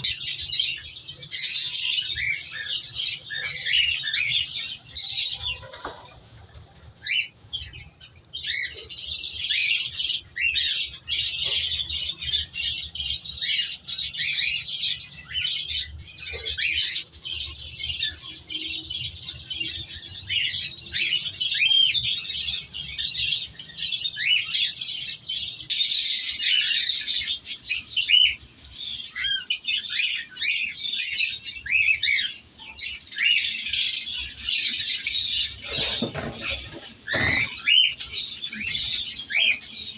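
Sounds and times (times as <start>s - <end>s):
cockatiels chirping and calling: 0.0s - 39.9s.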